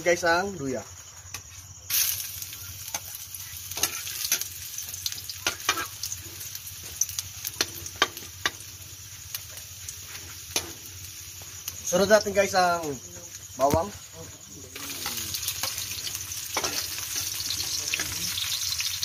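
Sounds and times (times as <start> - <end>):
ginger sizzling in hot oil: 1.9 - 19.0.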